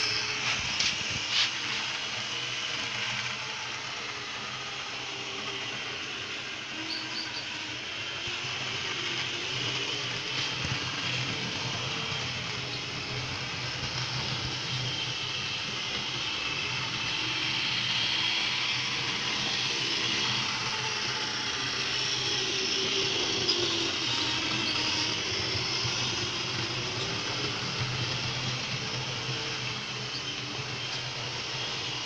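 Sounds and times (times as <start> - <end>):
model train motor whirring: 0.0 - 32.0
wheels rattling on rails: 0.0 - 32.0.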